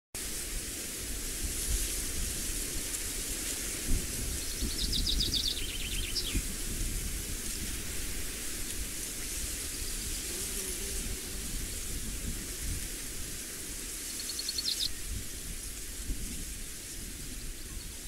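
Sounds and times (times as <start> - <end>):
high hiss: 0.2 - 18.0
wind rumbling on microphone: 0.2 - 18.0.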